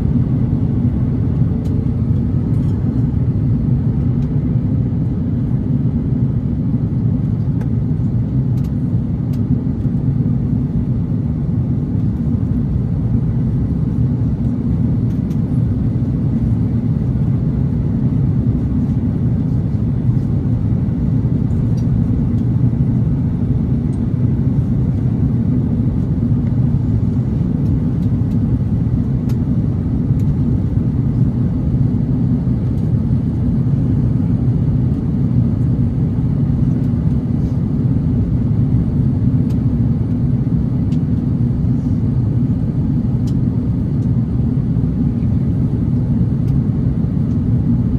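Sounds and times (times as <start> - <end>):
jet engines low rumble: 0.0 - 47.9.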